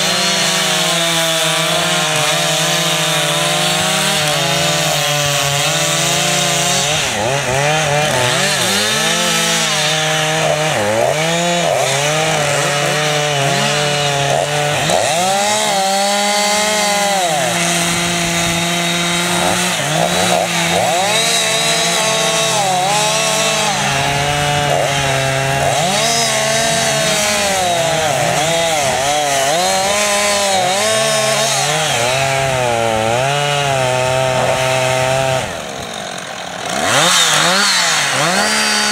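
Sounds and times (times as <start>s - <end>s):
chainsaw engine cutting: 0.0s - 38.9s.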